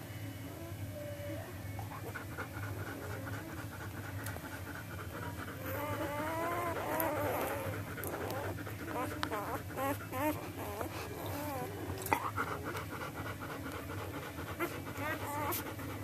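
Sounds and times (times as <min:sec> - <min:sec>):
steady low hum: 0:00.0 - 0:16.0
puppies whimpering and squealing: 0:00.6 - 0:16.0
quick rhythmic panting: 0:01.8 - 0:16.0.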